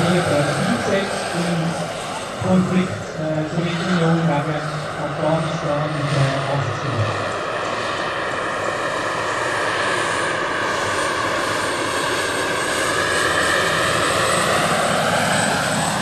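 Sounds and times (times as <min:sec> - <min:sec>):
helicopter rotor noise: 0:00.0 - 0:16.0
model helicopter turbine whine: 0:00.0 - 0:16.0.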